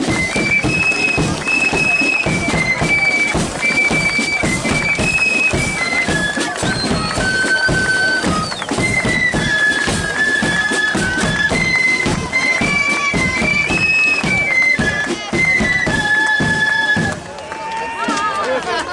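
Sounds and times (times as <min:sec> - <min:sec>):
flutes playing melody: 0:00.0 - 0:18.1
steady drumming: 0:00.0 - 0:18.4.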